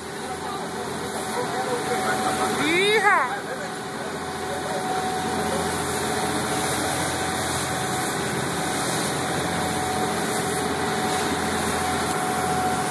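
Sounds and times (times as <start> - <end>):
boat engine droning: 0.0 - 12.9.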